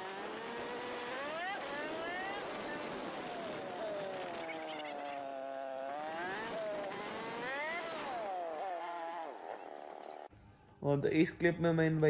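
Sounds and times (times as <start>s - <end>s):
motorcycle engine revving: 0.0s - 10.3s
road and wind noise: 0.0s - 10.3s.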